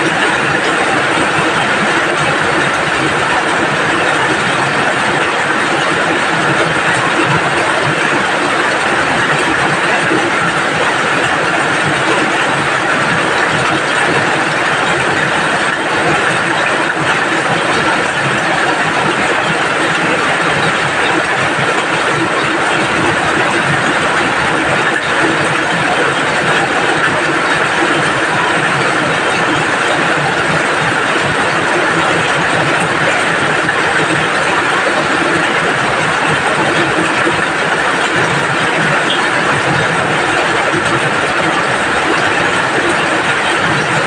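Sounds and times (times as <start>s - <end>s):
loud rain falling: 0.0s - 44.0s.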